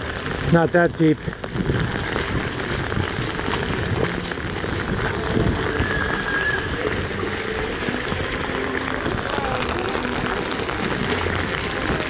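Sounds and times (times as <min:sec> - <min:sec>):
heavy rain falling: 0:00.0 - 0:12.0
wind buffeting microphone: 0:00.0 - 0:12.0.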